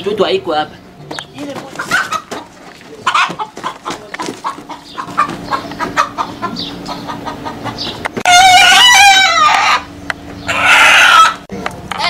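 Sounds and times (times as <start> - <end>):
chicken clucking and squawking: 1.4 - 12.0.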